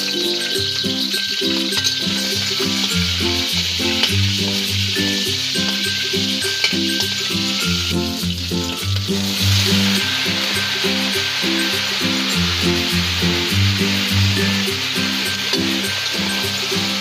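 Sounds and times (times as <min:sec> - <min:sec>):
prawns sizzling in oil: 0:00.0 - 0:17.0
slow background music: 0:00.0 - 0:17.0
spatula stirring in wok: 0:00.0 - 0:17.0.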